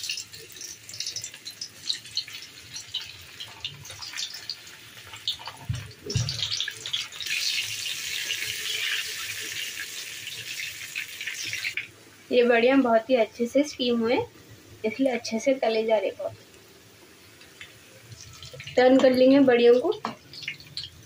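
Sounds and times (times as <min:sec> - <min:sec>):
deep-frying crackling sizzle: 0:00.0 - 0:21.0.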